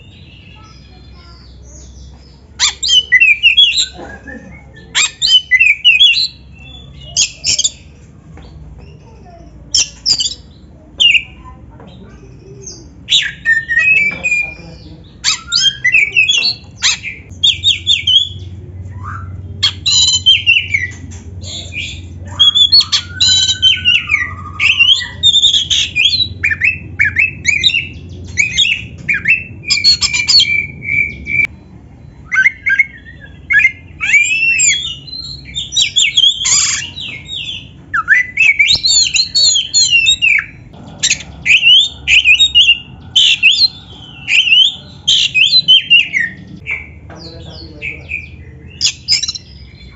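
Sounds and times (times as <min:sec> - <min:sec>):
bird singing whistles and trills: 0:00.0 - 0:07.9, 0:09.7 - 0:11.5, 0:12.6 - 0:49.9.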